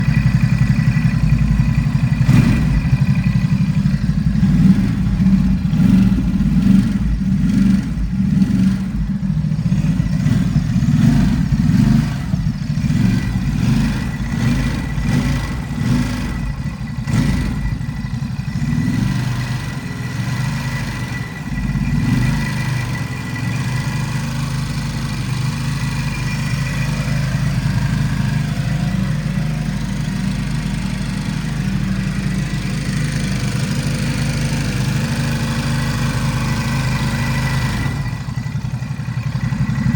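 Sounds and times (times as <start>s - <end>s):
motorcycle engine idling with rattle: 0.0s - 39.9s.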